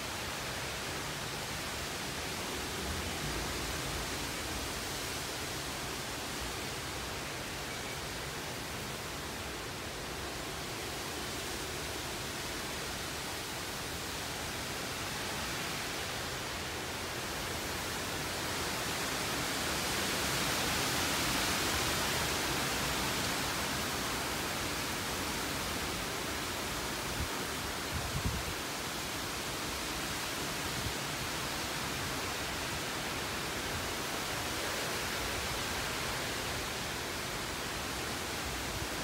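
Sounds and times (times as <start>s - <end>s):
wind rushing through trees: 0.0s - 39.0s.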